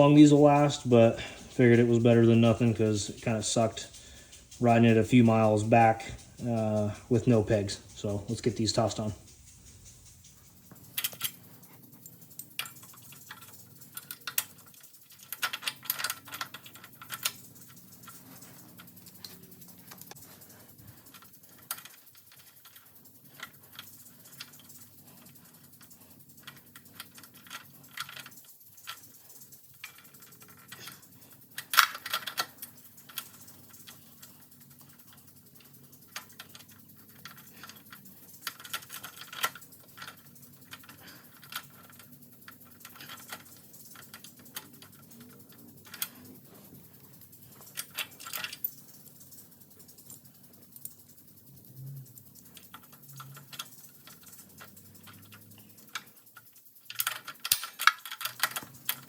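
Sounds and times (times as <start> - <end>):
hand tools clicking on metal: 0.0 - 59.0.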